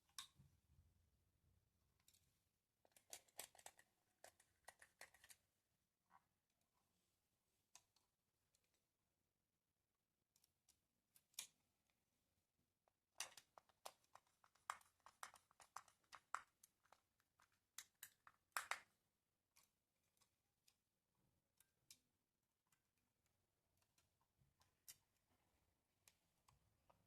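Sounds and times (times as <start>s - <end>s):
faint clicks and handling noises: 1.9s - 9.1s, 9.9s - 12.1s, 12.7s - 27.0s.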